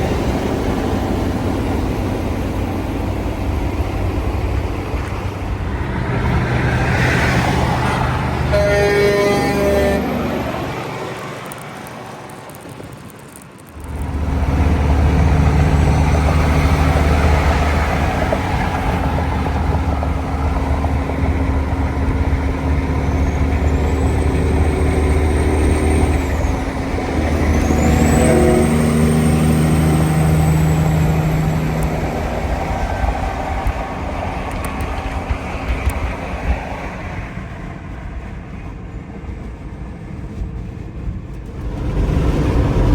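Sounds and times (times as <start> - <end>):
heavy diesel engine running: 0.0 - 12.2, 13.8 - 42.9.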